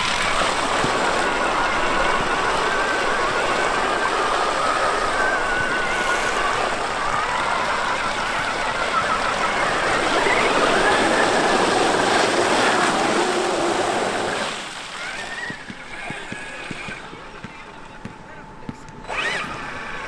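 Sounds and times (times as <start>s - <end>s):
electric motor whining: 0.0s - 18.0s, 18.6s - 20.0s
tyres rushing over ground: 0.0s - 18.0s.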